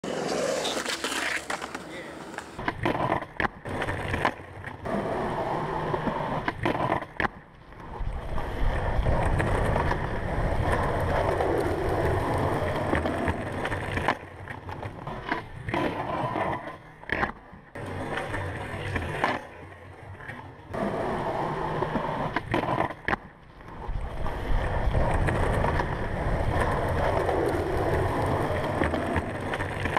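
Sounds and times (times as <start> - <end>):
skateboard clacks: 0.0 - 29.9
skateboard wheels rolling on concrete: 0.0 - 29.9.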